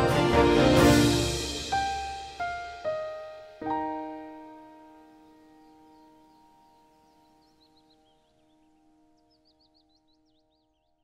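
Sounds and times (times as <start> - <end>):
held music chord: 0.0 - 9.3.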